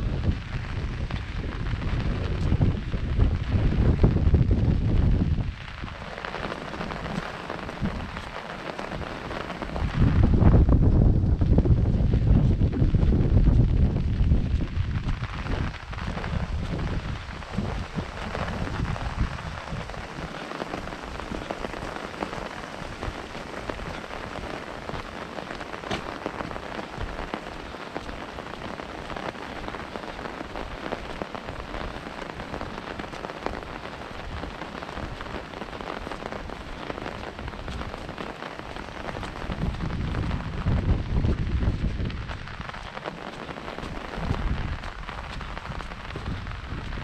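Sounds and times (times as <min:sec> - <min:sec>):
rain on an umbrella: 0:00.0 - 0:47.0
wind rumble on microphone: 0:00.0 - 0:47.0.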